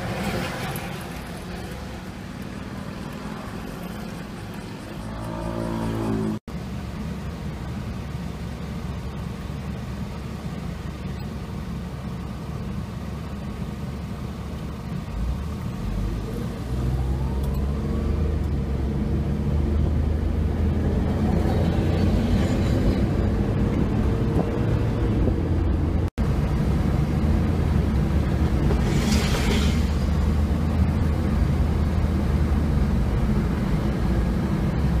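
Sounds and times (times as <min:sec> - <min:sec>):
car engine revving and driving: 0:00.0 - 0:35.0.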